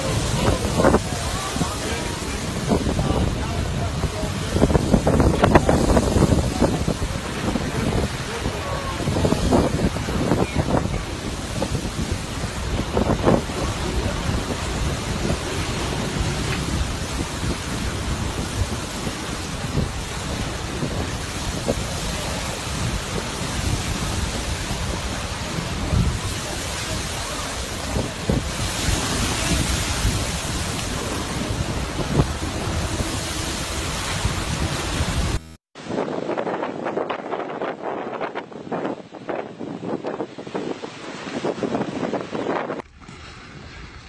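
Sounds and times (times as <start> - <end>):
steam hissing: 0.0 - 35.4
low rumbling: 0.0 - 35.6
surf roaring: 0.0 - 44.0
wind buffeting microphone: 0.0 - 44.0.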